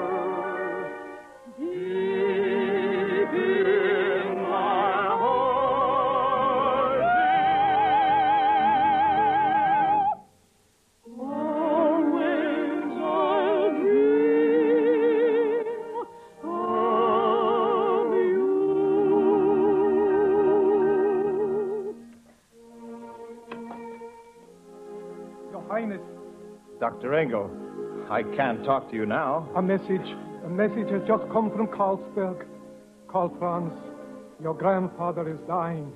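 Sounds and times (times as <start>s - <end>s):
operatic singing with vibrato: 0.0s - 10.3s, 11.0s - 35.9s.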